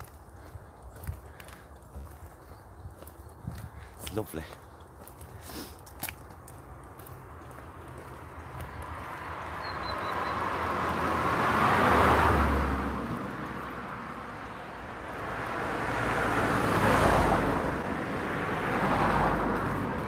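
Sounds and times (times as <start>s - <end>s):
cars passing on road: 0.0s - 20.0s.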